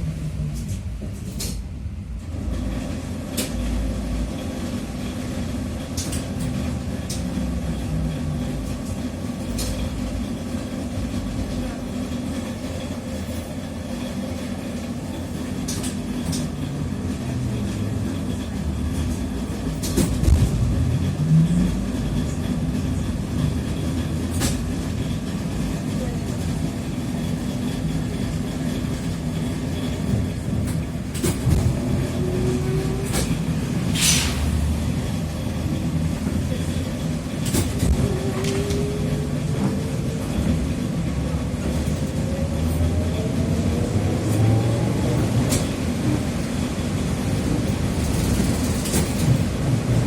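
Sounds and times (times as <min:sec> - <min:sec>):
trolleybus running gear rumble: 0:00.0 - 0:50.0
trolleybus motor whine rising: 0:01.9 - 0:50.0.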